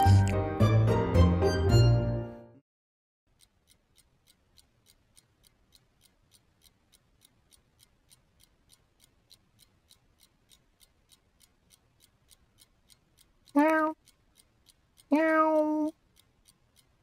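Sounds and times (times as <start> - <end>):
clock ticking: 3.3 - 17.0.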